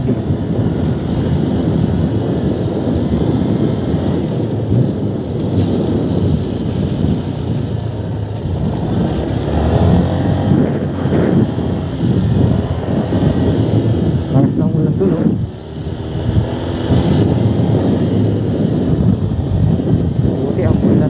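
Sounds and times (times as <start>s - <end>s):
motor scooter engine rumble: 0.0s - 21.0s
wind buffeting microphone: 0.0s - 21.0s.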